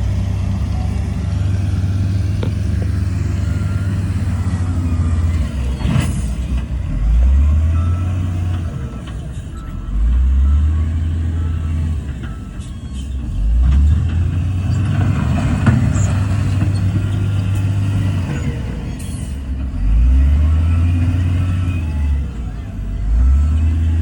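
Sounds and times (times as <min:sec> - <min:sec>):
heavy diesel engine rumbling: 0:00.0 - 0:24.0.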